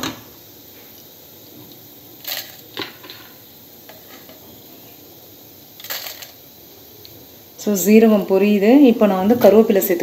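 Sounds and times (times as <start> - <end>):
seeds sizzling in hot oil: 0.0 - 10.0.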